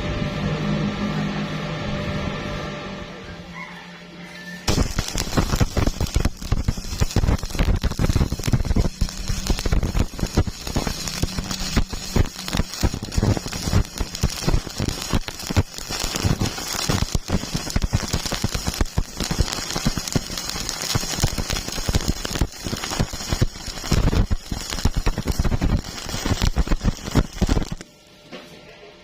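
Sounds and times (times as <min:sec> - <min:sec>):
welding arc crackling: 0:04.6 - 0:27.9.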